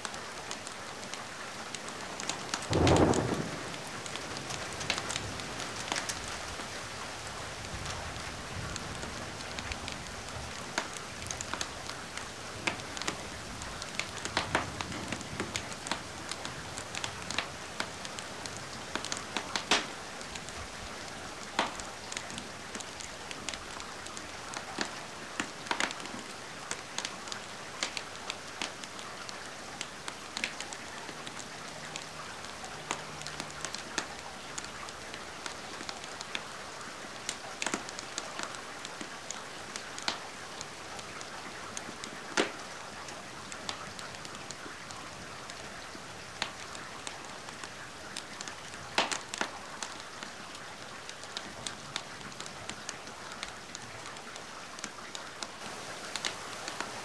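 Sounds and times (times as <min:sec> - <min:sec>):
steady rain hiss: 0:00.0 - 0:57.0
wood fire crackling and popping: 0:00.5 - 0:06.8, 0:08.7 - 0:32.1, 0:37.2 - 0:42.7, 0:46.3 - 0:57.0.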